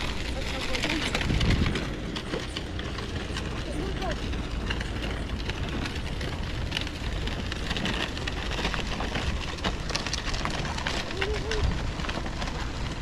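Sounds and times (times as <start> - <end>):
traffic rushing: 0.0 - 13.0.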